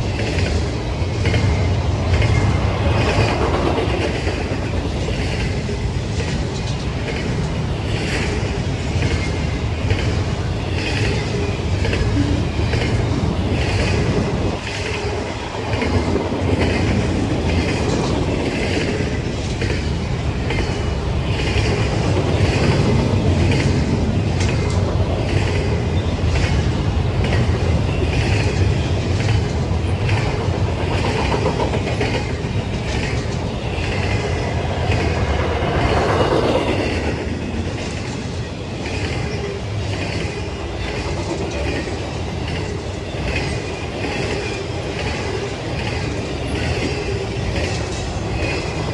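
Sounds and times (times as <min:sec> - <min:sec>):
railroad cars rumbling: 0:00.0 - 0:48.9
wheels clacking over rail joints: 0:00.1 - 0:48.9.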